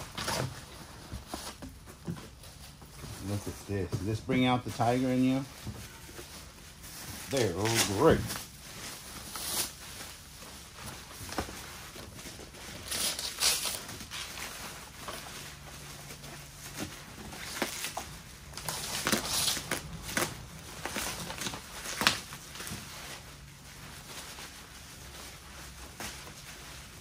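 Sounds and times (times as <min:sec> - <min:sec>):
plastic bags and paper rustling: 0:00.0 - 0:27.0.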